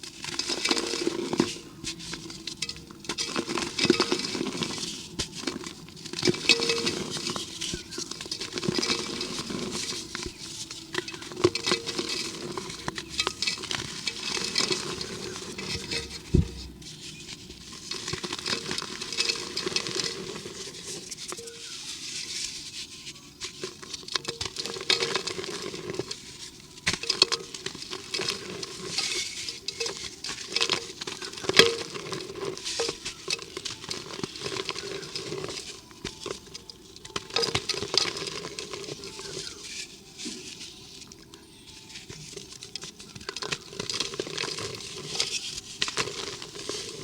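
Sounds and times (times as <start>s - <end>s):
dry cement crumbling: 0.1s - 20.9s, 26.8s - 39.7s, 42.1s - 47.0s.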